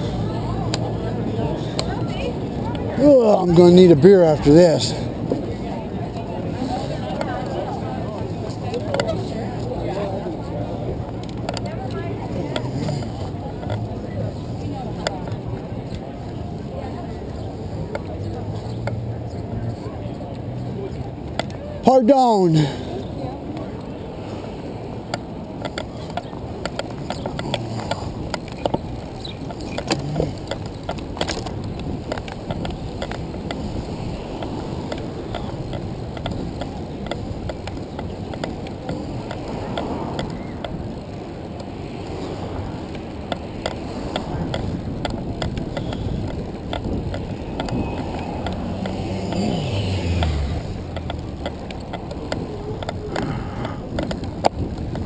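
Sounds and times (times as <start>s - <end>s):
tyre and road rumble: 0.0s - 55.0s.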